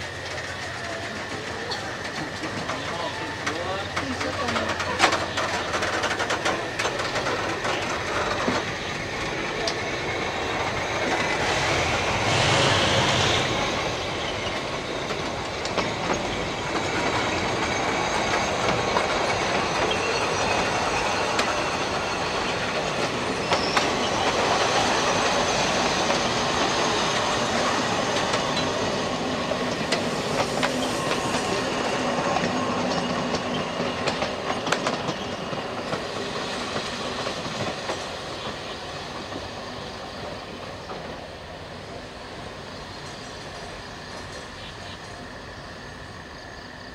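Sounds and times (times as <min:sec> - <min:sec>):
wheel squeal: 0:00.0 - 0:41.2
train wheels clicking over rail joints: 0:00.0 - 0:45.4.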